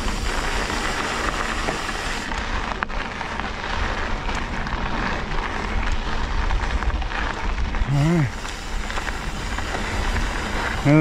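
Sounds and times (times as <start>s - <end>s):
tyres crackling over gravel: 0.0s - 11.0s
wind rumbling on microphone: 0.0s - 11.0s.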